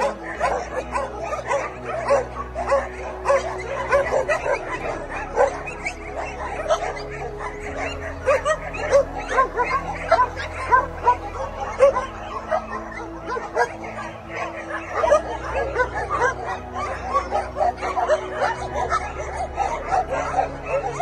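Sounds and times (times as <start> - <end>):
background music: 0.0 - 21.0
dogs barking and yelping: 0.0 - 21.0.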